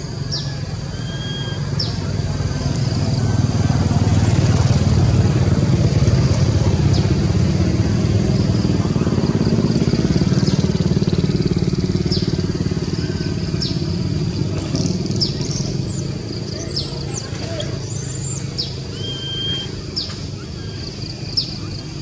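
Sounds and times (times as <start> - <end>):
loud low engine rumble: 0.0 - 22.0.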